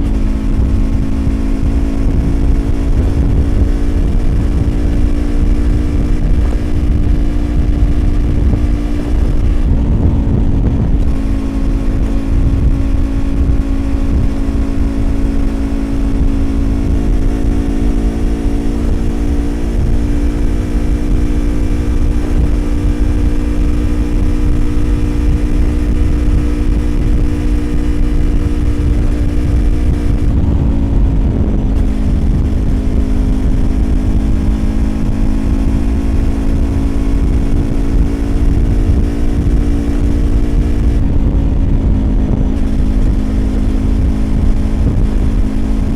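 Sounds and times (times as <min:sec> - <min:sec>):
motorcycle engine cruising: 0:00.0 - 0:45.9
wind rush on microphone: 0:00.0 - 0:45.9.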